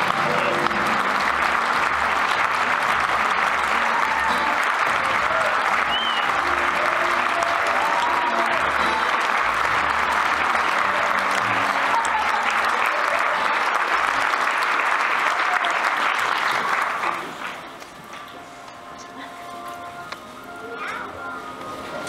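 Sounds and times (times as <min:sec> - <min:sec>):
audience applauding: 0:00.0 - 0:18.1.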